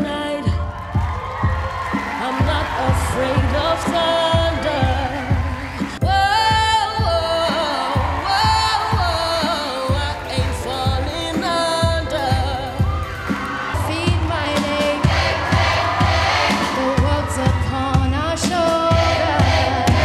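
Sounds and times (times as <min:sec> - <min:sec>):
lead vocal singing: 0:00.0 - 0:20.0
pop backing track with beat: 0:00.0 - 0:20.0.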